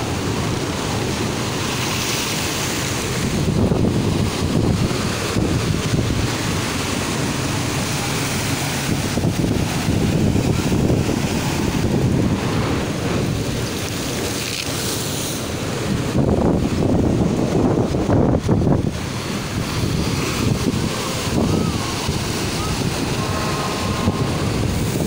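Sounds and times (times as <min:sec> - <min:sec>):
surf crashing against a seawall: 0:00.0 - 0:25.0
wind buffeting the microphone: 0:00.0 - 0:25.0.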